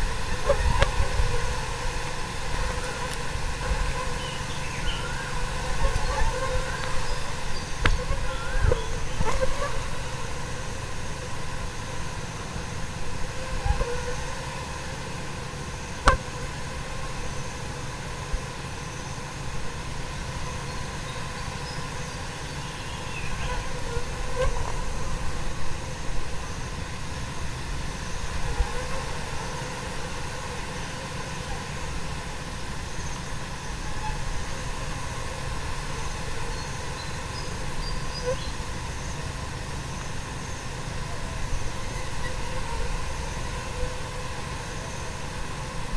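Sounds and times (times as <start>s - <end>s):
swarm of flies buzzing: 0.0s - 45.9s.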